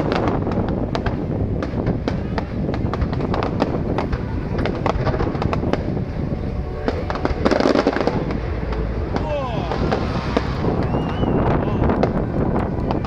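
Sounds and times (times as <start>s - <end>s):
fireworks bangs and pops: 0.0s - 6.2s, 6.9s - 13.0s
continuous low rumble: 0.0s - 13.0s.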